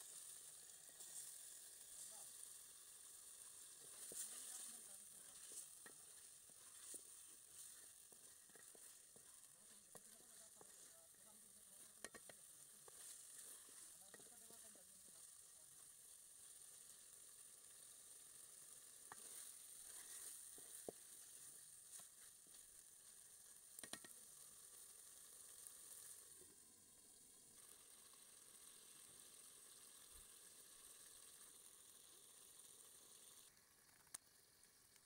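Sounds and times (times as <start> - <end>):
chicken sizzling in oil: 0.0 - 35.0.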